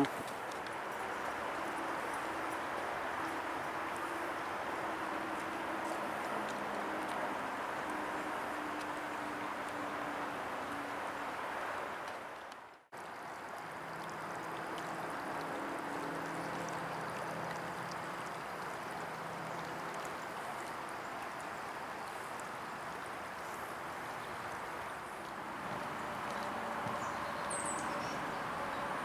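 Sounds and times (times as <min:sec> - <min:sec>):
steady rushing outdoor ambience: 0:00.0 - 0:29.0.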